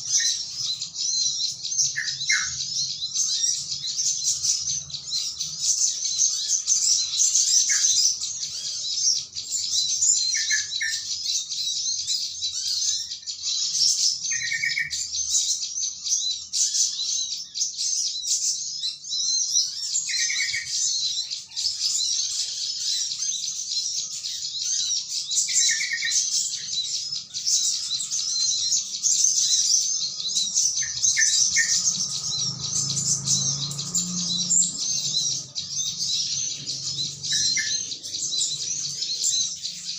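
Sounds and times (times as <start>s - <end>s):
bulbul calls: 0.0s - 15.5s, 18.4s - 39.9s
flock of small birds chattering: 0.0s - 39.9s.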